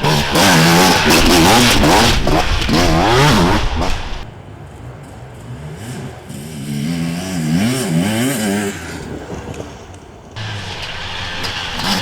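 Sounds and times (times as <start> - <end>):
motorcycle engine passing: 0.0 - 12.0
motorcycle engine revving: 0.0 - 12.0.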